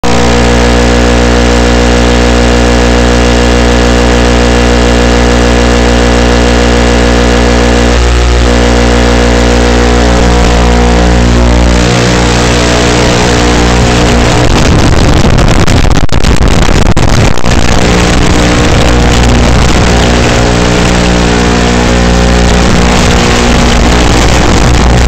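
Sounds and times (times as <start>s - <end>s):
electrical interference buzz: 0.0s - 25.0s.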